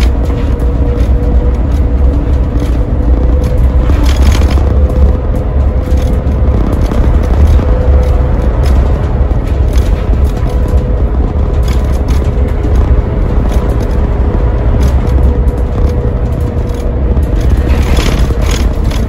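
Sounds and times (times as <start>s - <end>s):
bus engine drone: 0.0s - 19.0s
rattles: 0.0s - 19.0s
road rumble: 0.0s - 19.0s.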